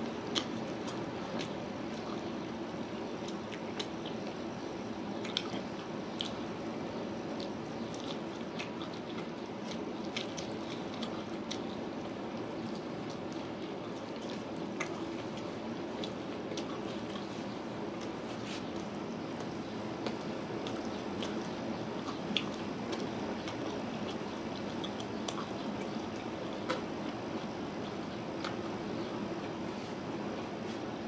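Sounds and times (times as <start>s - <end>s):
steady background noise: 0.0s - 31.0s
chewing and wet mouth smacks: 0.2s - 2.4s, 3.2s - 4.4s, 5.2s - 6.5s, 7.3s - 29.6s.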